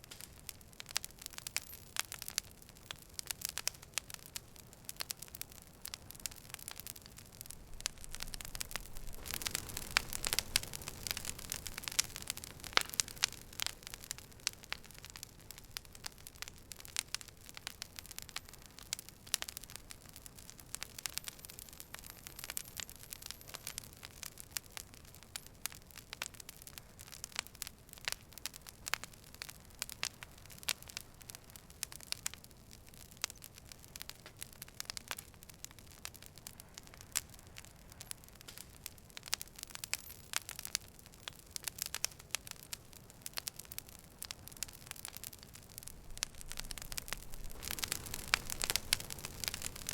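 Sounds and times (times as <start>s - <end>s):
campfire pops and crackles: 0.0s - 49.9s
soft steady fire hiss: 0.0s - 49.9s.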